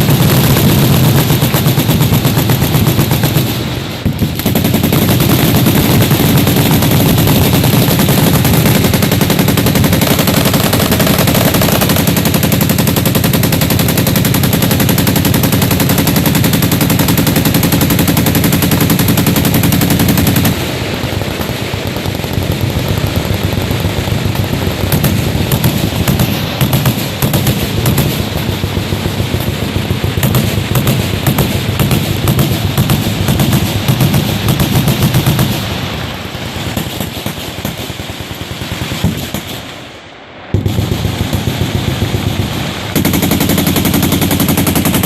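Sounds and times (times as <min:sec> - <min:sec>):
machine gun fire: 0:00.0 - 0:39.8, 0:40.5 - 0:45.0.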